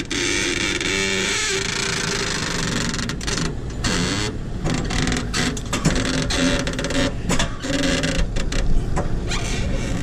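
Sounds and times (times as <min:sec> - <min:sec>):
boat hull creaking and squeaking: 0:00.0 - 0:10.0.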